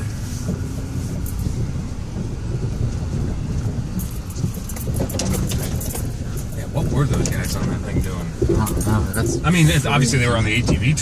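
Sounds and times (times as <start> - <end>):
engine and tyres rumbling: 0.0 - 11.0
sharp rattles and clicks: 0.4 - 11.0.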